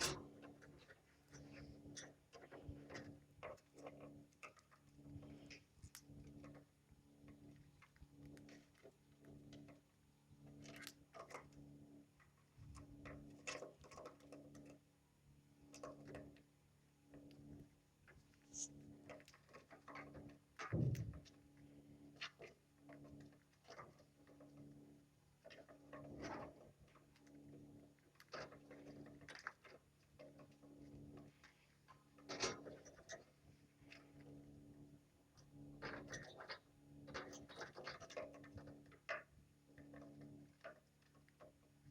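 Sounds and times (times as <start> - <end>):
birds pecking and husking seed: 0.0 - 41.9
faint low hum: 0.0 - 41.9.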